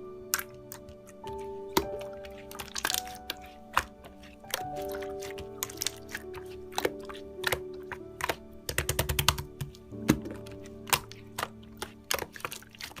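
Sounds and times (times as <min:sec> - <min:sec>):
soft background music: 0:00.0 - 0:13.0
slime clicking and popping: 0:00.3 - 0:13.0.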